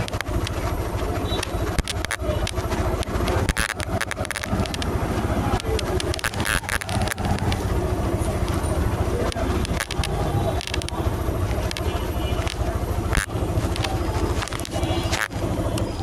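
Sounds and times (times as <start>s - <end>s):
bike road noise rumble: 0.0s - 16.0s
knocks and rattles: 0.0s - 16.0s.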